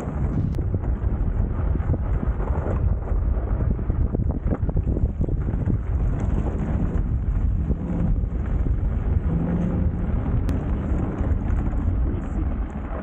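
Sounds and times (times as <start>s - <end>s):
bike tyres rolling over snow: 0.0s - 13.0s
wind buffeting microphone: 0.0s - 13.0s.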